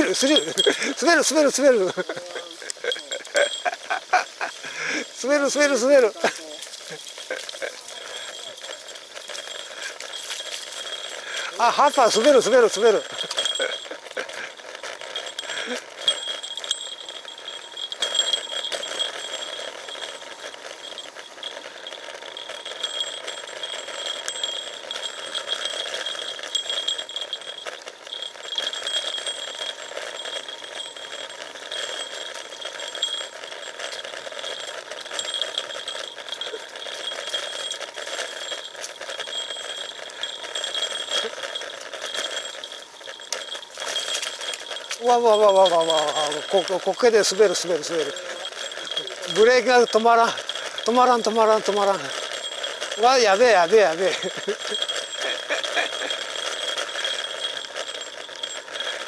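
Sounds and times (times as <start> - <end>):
bicycle rattling downhill: 0.0 - 59.0.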